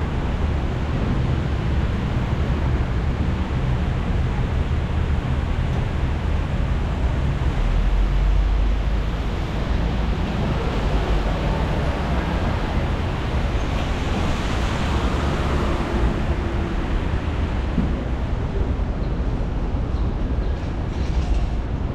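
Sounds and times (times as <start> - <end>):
rumble of passing vehicles: 0.0 - 21.9.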